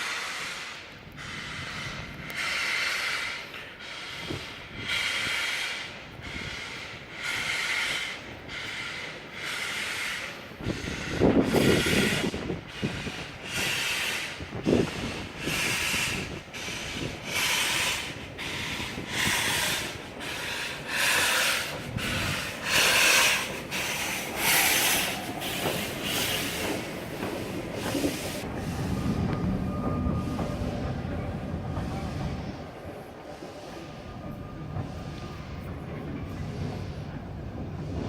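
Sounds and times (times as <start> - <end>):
steam locomotive chuffing: 0.0 - 38.0.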